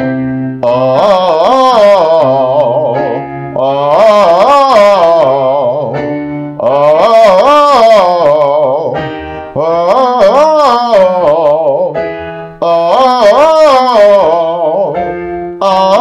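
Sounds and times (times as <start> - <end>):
keyboard chords: 0.0 - 16.0
man singing vocal exercise: 0.6 - 16.0.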